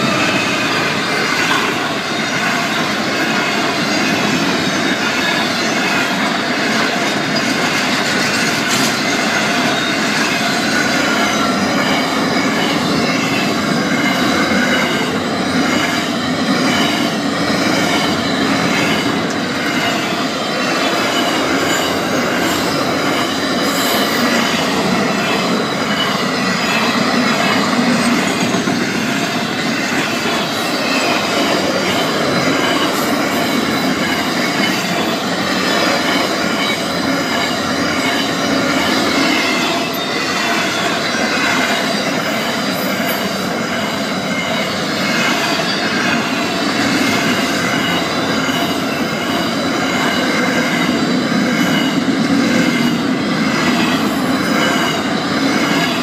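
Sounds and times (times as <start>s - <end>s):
steel wheels rumbling on rail: 0.0s - 56.0s
wavering high-pitched tones: 8.3s - 56.0s.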